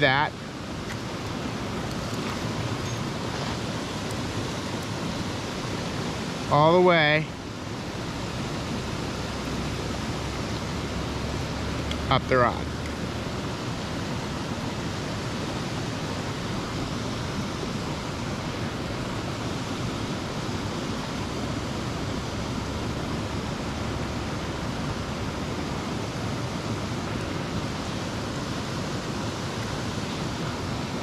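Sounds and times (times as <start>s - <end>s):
steady rushing noise: 0.0s - 31.0s.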